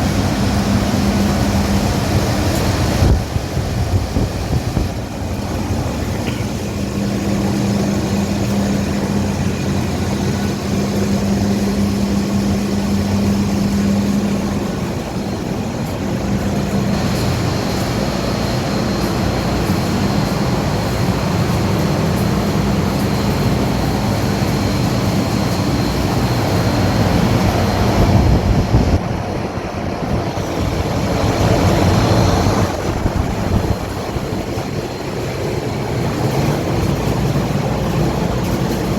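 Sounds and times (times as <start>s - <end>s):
fans and air conditioners droning: 0.0s - 38.9s.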